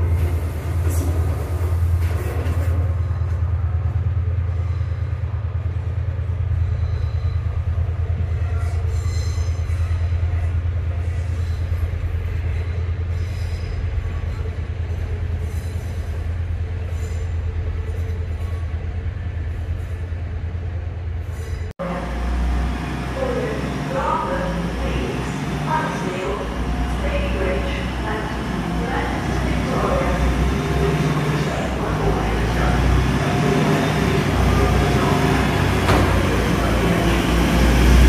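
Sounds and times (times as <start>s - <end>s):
train low drone: 0.0s - 38.0s.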